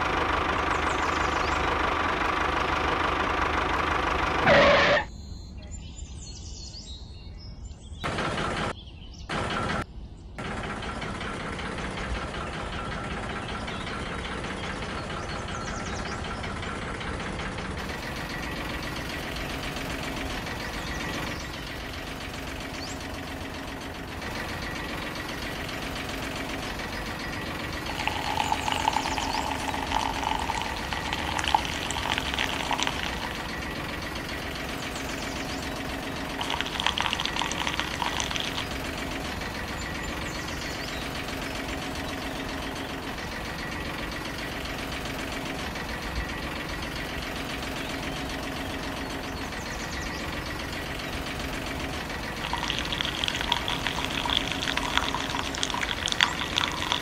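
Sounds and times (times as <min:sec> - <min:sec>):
small stationary engine running: 0:00.0 - 0:05.1, 0:08.0 - 0:09.8, 0:10.4 - 0:57.0.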